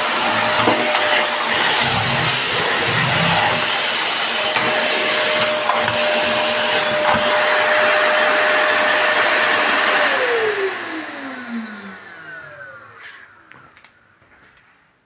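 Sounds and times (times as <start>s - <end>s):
vacuum cleaner motor whine: 0.0s - 14.2s.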